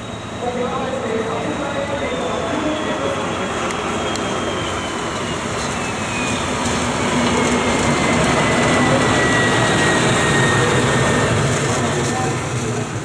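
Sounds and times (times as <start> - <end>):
diesel locomotive passing: 0.0 - 13.0.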